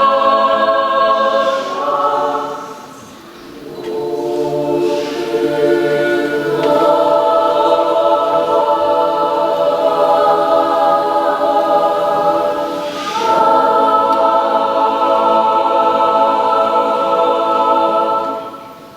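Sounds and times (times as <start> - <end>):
unaccompanied choir singing chords: 0.0 - 18.9.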